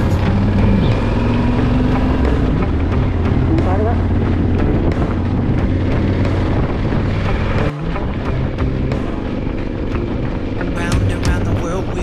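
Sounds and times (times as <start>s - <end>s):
instrumental rock music: 0.0s - 12.0s
motorcycle riding: 0.0s - 12.0s
wind buffeting microphone: 0.0s - 12.0s.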